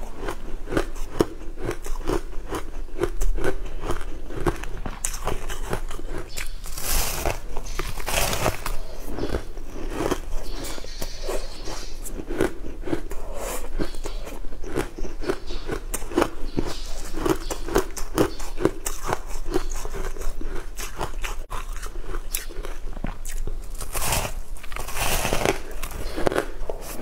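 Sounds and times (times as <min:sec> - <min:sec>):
food crunching and crackling: 0:00.0 - 0:27.0
person chewing crunchy food: 0:00.0 - 0:27.0.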